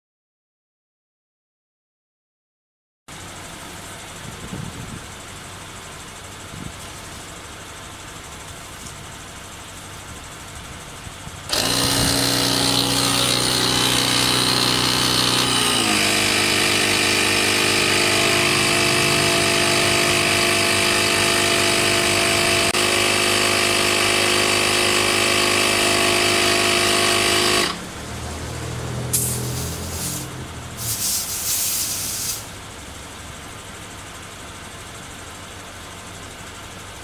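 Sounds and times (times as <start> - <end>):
air compressor pump running: 3.4 - 28.1, 29.1 - 36.9.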